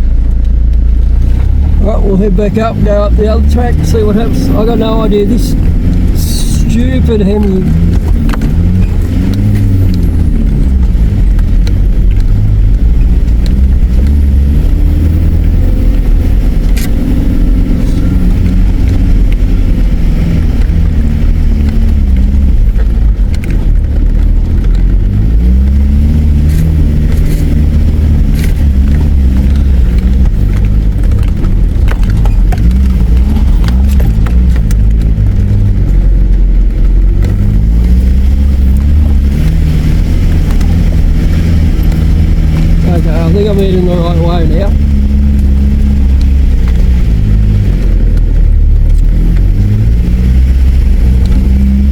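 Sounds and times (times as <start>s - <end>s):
car engine running under load: 0.0s - 51.9s.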